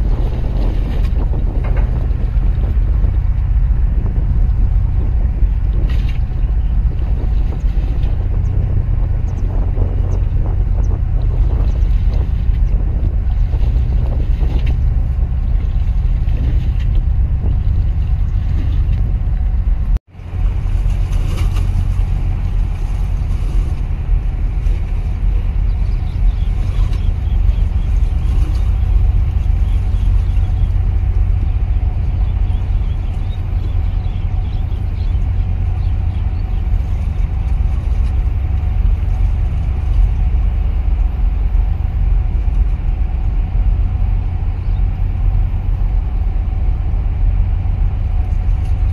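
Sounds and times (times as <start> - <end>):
motorboat engine rumble: 0.0 - 48.9
wind on microphone: 0.0 - 48.9.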